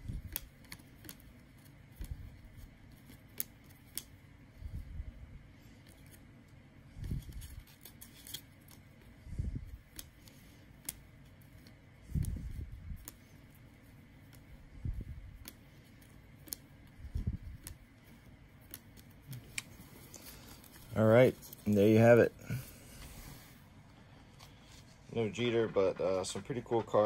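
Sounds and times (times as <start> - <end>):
cards rubbing: 0.0 - 27.0.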